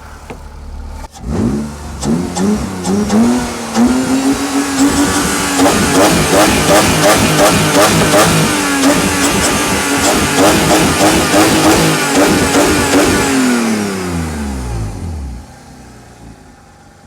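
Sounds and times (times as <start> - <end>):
car engine revving hard: 1.0 - 15.5.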